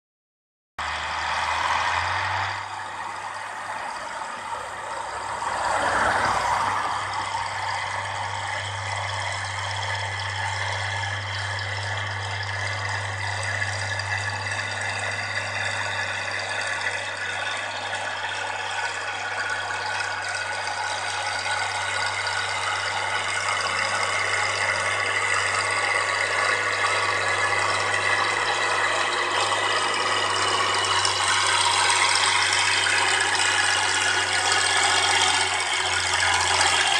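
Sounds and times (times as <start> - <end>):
tractor diesel engine droning: 0.8 - 36.9.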